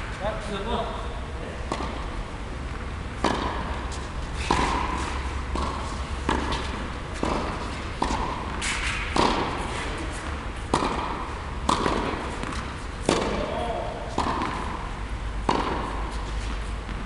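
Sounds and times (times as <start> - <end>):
tennis balls struck and bouncing: 1.6 - 17.0.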